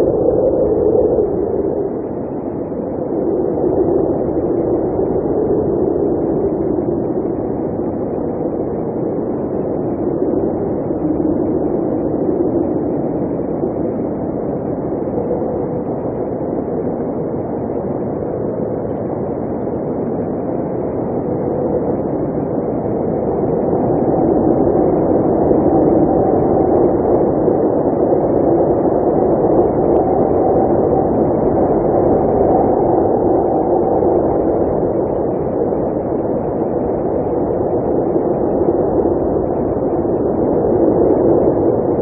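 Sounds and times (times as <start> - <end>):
blizzard wind blowing: 0.0 - 42.0.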